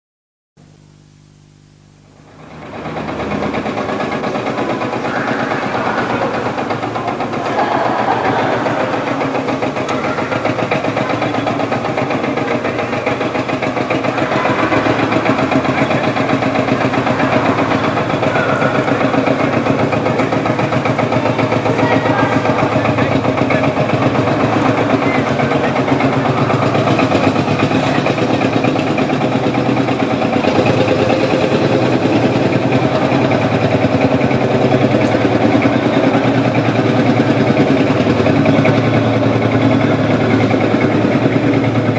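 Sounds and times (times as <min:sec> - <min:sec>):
tractor engine running: 0:00.6 - 0:41.9.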